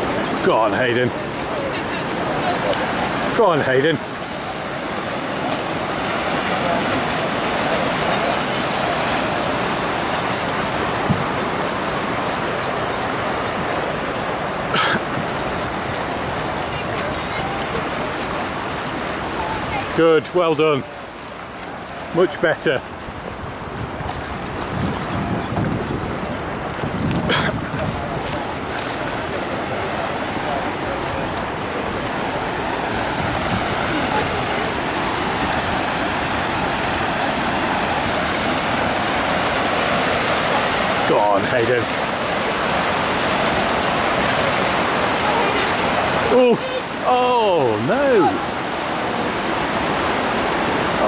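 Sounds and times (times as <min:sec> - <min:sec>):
whitewater rushing: 0:00.0 - 0:51.0.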